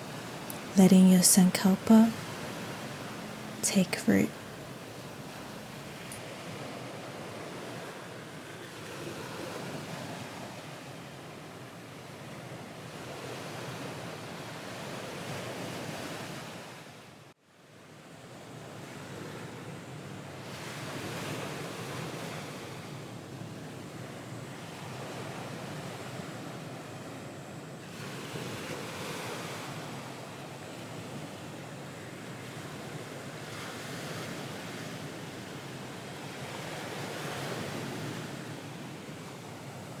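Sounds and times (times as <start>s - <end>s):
ocean waves breaking: 0.0s - 17.2s, 18.7s - 40.0s.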